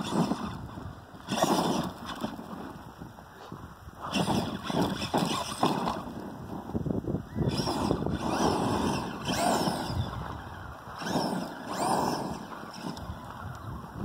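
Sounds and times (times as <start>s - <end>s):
electric motor whining: 0.0s - 2.6s, 4.0s - 6.6s, 7.3s - 14.0s.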